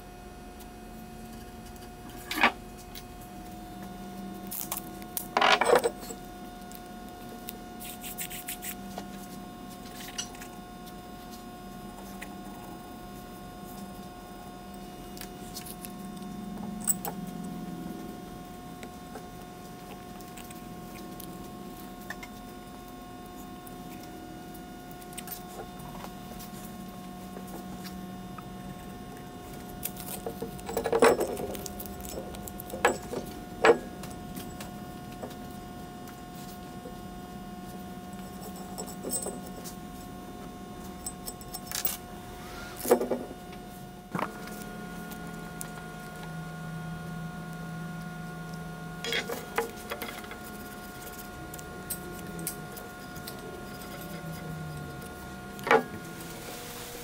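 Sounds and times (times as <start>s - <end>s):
faint hum: 0.0s - 57.0s.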